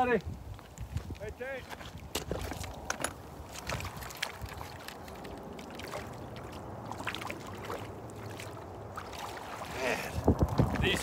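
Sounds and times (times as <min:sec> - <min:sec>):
river water running: 0:00.0 - 0:11.0.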